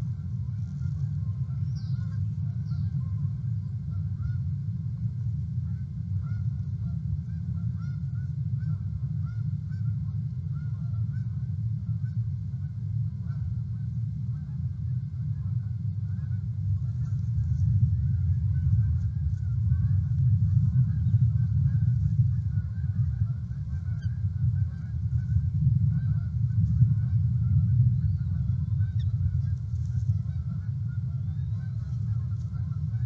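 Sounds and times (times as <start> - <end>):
distant birds honking: 0.0 - 33.0
steady low rumble: 0.0 - 33.0.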